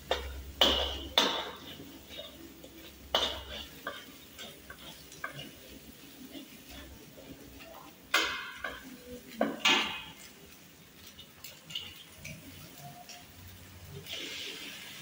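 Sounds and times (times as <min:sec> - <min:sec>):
metal spatula scraping a wok: 0:00.0 - 0:15.0.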